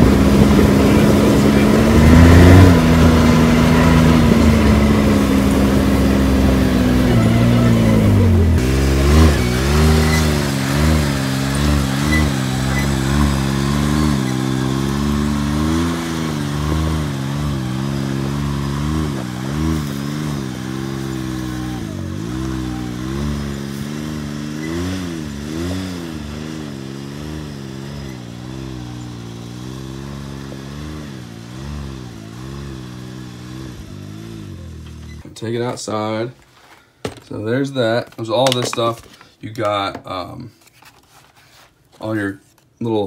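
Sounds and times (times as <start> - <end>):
off-road vehicle engine revving: 0.0 - 35.2.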